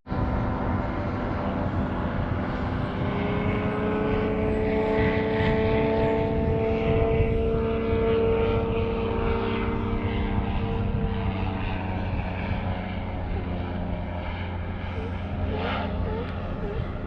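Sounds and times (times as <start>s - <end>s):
outboard motor humming: 0.1s - 17.0s.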